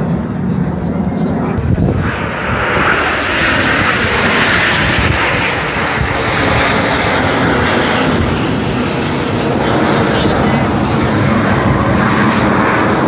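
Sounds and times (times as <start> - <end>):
jet engines flying overhead: 0.0 - 13.0.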